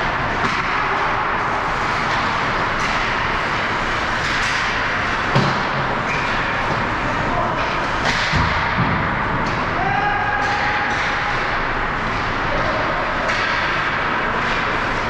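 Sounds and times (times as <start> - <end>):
hockey rink arena noise: 0.0 - 15.0.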